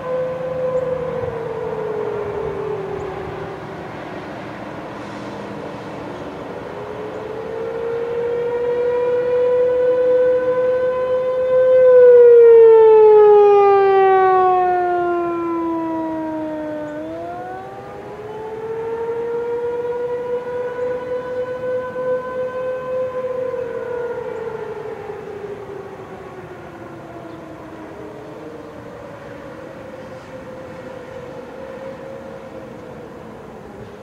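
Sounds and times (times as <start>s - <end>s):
fainter lower siren wailing: 0.0s - 34.0s
warning siren wailing: 0.0s - 34.0s.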